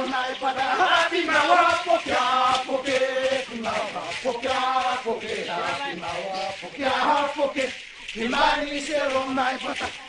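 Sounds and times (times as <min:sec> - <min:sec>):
group of voices chanting: 0:00.0 - 0:10.0.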